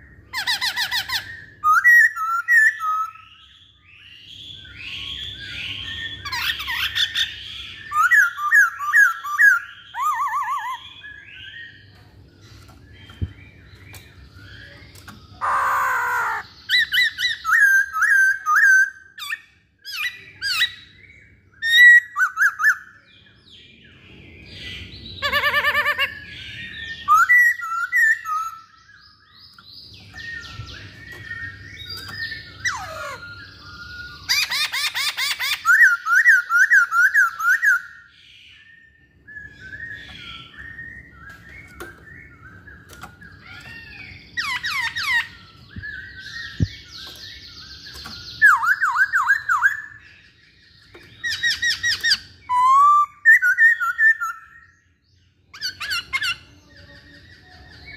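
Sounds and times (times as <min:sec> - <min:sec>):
bird singing varied song: 0:00.0 - 0:57.9.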